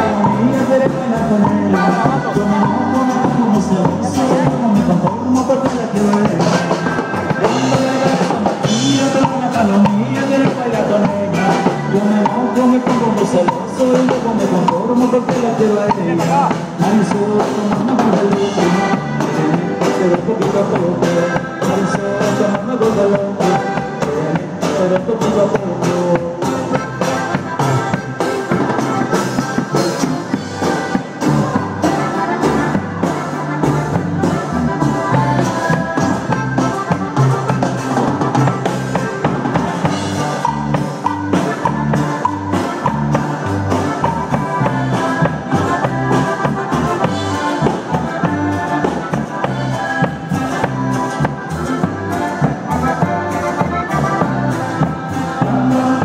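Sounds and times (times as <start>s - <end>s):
band playing cumbia: 0.0s - 56.0s
drum kit beat: 0.0s - 56.0s.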